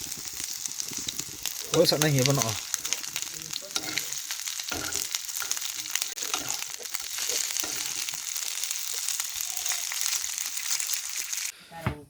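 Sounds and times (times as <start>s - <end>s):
frying sizzle and crackling: 0.0s - 11.6s.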